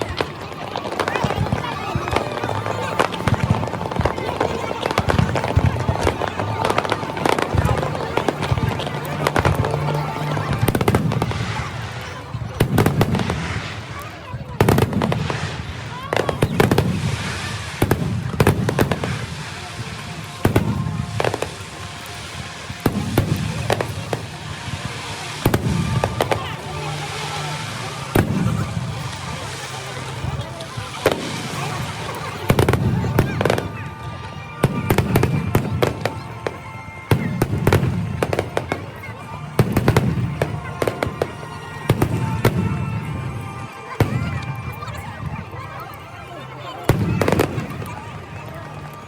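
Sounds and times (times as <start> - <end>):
fireworks bangs: 0.0 - 45.3, 46.9 - 48.9
music playing: 0.0 - 49.0.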